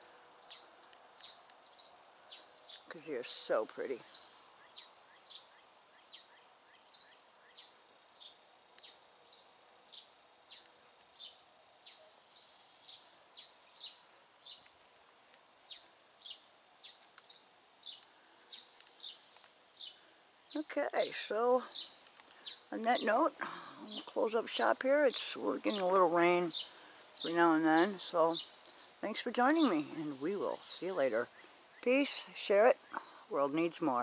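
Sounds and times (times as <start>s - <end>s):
small bird chirping: 0.4s - 14.8s, 15.6s - 33.2s.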